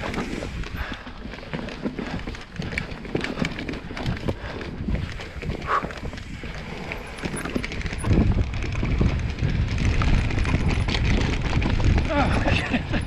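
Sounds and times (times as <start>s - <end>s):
bike rattling over bumps: 0.0s - 13.0s
tyres rumbling on dirt: 0.0s - 13.0s.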